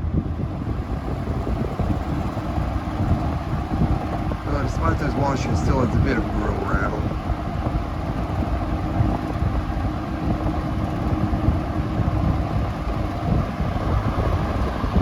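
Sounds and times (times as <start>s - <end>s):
box fan air rush: 0.0s - 15.0s
fan grille rattle: 0.0s - 15.0s.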